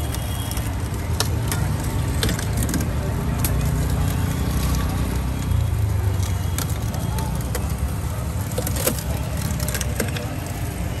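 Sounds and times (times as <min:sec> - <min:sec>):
sugarcane cracking in rollers: 0:00.0 - 0:10.8.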